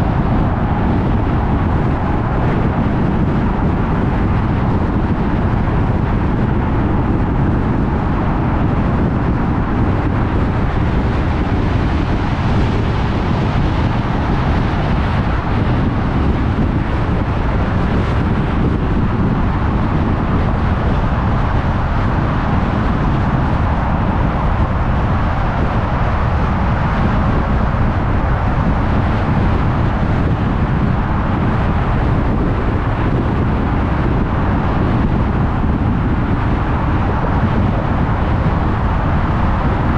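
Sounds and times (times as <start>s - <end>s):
car tyre and road noise: 0.0s - 39.9s
wind: 0.0s - 39.9s.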